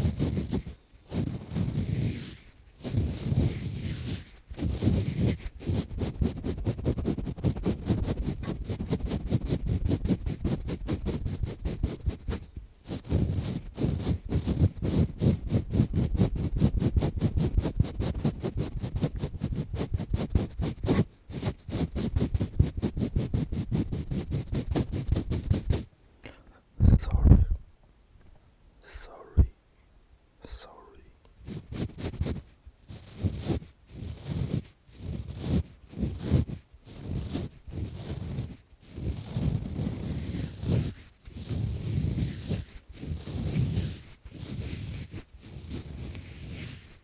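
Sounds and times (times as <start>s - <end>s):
scratching and rubbing on microphone: 0.0s - 25.9s, 26.8s - 27.6s, 28.9s - 29.5s, 30.5s - 47.0s.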